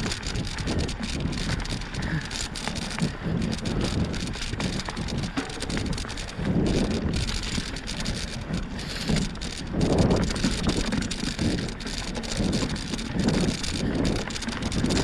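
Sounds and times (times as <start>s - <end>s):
bicycle tyres crunching on dirt: 0.0s - 15.0s
wind buffeting microphone: 0.0s - 15.0s.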